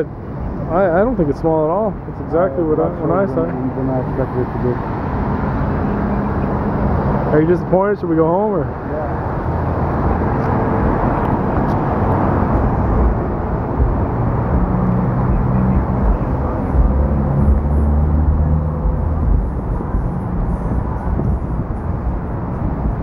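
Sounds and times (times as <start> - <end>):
low engine hum: 0.0 - 23.0
passing vehicles: 0.0 - 23.0.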